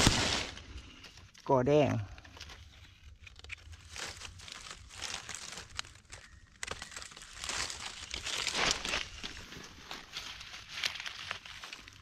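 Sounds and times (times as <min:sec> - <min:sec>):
dry leaves crackling and rustling: 0:00.0 - 0:00.8, 0:01.5 - 0:12.0.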